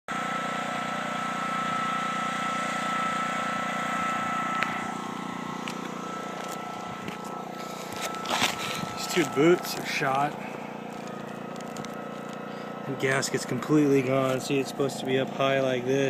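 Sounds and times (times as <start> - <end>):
high mechanical drone: 0.1 - 16.0.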